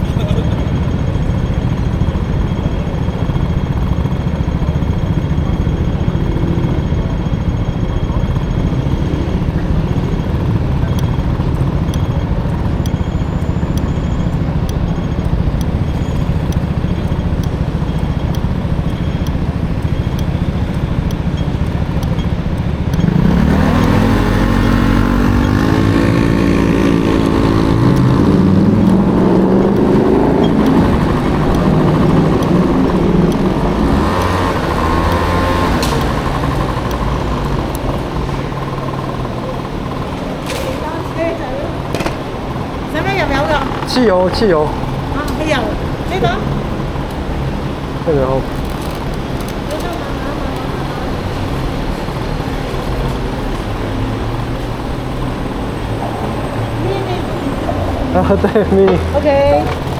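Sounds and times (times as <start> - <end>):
two-stroke scooter engine: 0.0 - 59.9
wind and road noise: 0.0 - 59.9.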